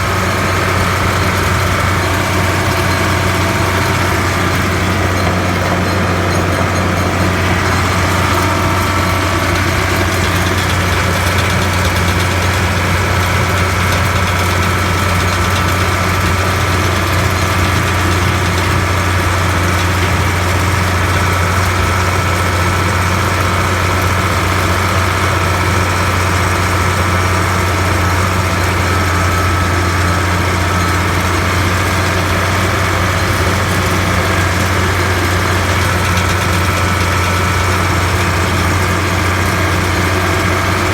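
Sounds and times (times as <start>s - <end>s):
loader engine idling: 0.0s - 40.9s.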